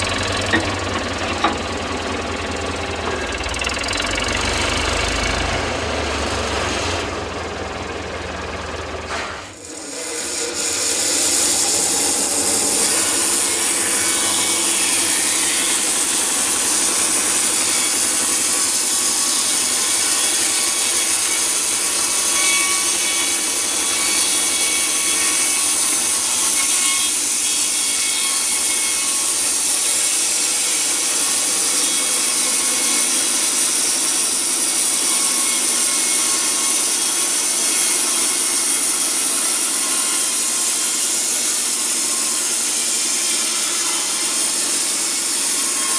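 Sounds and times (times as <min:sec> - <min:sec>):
band sawmill sawing through log: 0:00.0 - 0:45.9.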